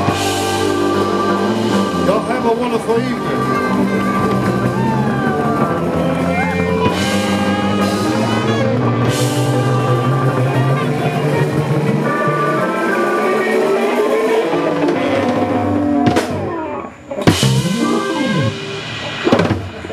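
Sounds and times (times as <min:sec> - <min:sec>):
live rock band playing: 0:00.0 - 0:19.9.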